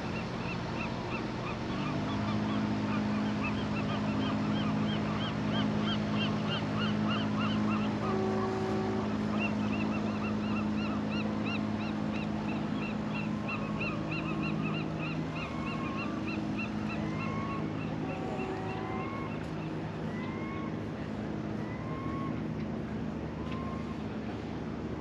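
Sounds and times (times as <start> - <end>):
motorboat engine hum: 0.0 - 25.0
birds calling: 0.1 - 20.8.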